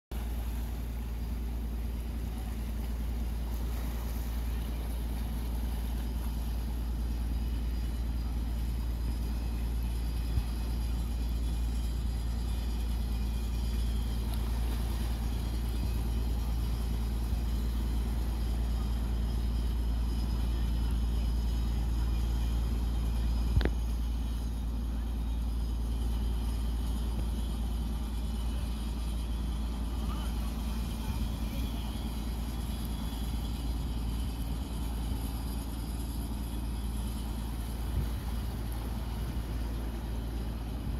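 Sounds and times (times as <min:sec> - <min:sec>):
boat engine droning: 0:00.1 - 0:40.9.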